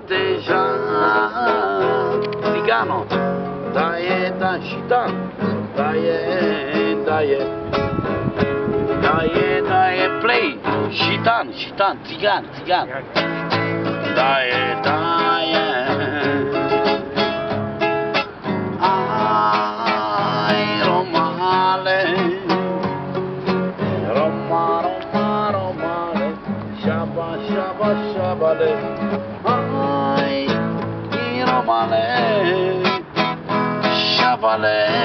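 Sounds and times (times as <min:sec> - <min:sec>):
man singing long notes: 0:00.0 - 0:07.7, 0:08.9 - 0:12.6, 0:13.9 - 0:17.4, 0:18.7 - 0:33.2, 0:33.8 - 0:35.0
acoustic guitar strumming: 0:00.0 - 0:35.0.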